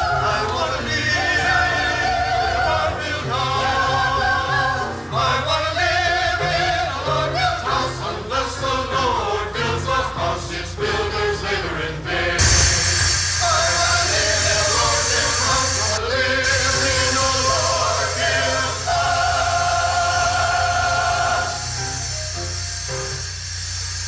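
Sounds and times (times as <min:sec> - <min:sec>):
song with several singing voices: 0:00.0 - 0:22.0.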